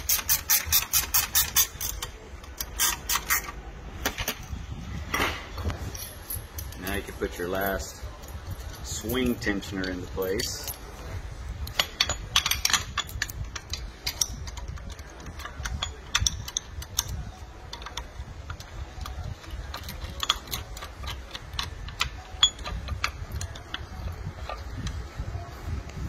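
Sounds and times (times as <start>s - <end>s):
metal parts clicking and clinking: 0.0s - 4.6s, 5.6s - 26.0s
low steady rumble: 3.4s - 26.0s.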